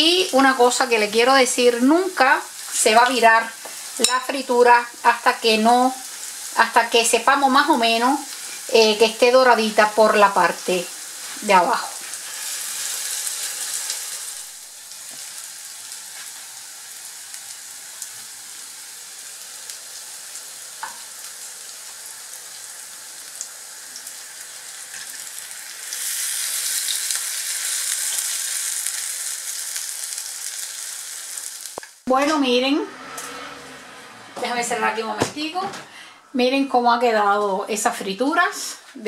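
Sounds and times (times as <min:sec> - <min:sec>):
oil sizzling in a pan: 0:00.0 - 0:32.6.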